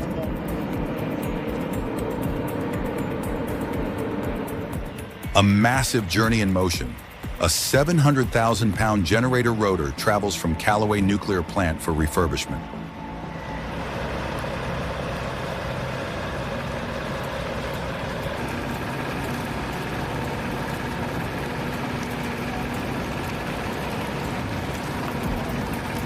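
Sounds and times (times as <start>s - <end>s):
heavy truck engines running: 0.0s - 26.0s.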